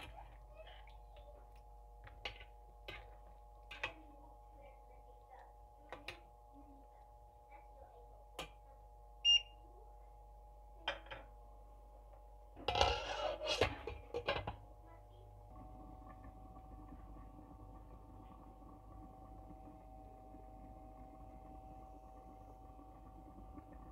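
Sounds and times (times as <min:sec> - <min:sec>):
steady multi-tone hum: 0:00.0 - 0:23.9.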